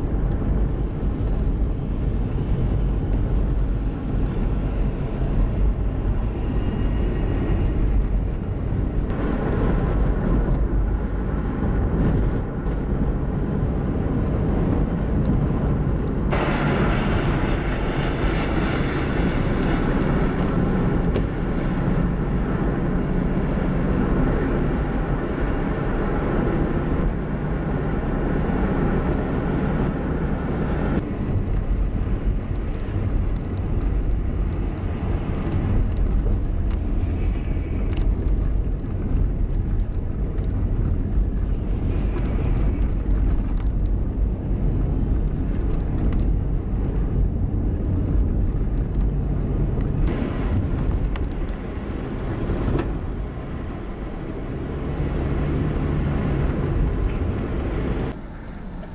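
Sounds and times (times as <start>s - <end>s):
vehicle road rumble: 0.0s - 58.9s
wind noise: 0.0s - 58.9s.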